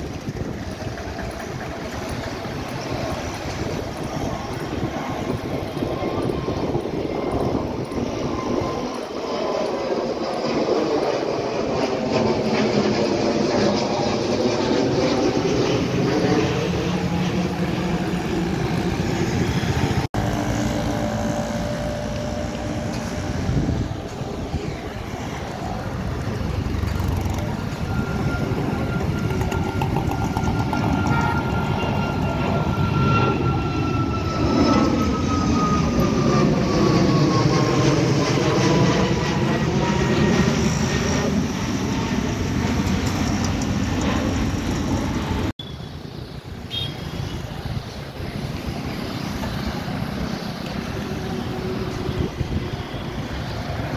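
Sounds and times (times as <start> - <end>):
jet engine rushing noise: 0.0 - 53.9
jet engine whine falling in pitch: 0.0 - 53.9.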